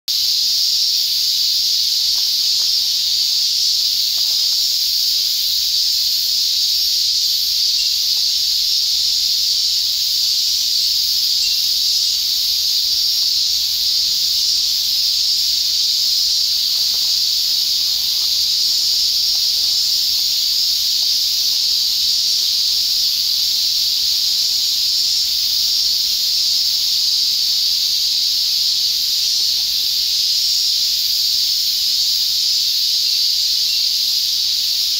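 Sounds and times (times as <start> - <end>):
insects droning: 0.1 - 34.9.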